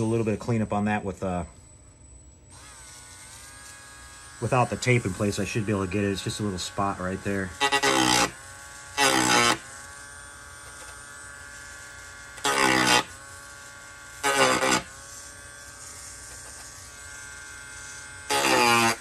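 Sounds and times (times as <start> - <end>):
rotary tool grinding plastic: 2.5 - 19.0.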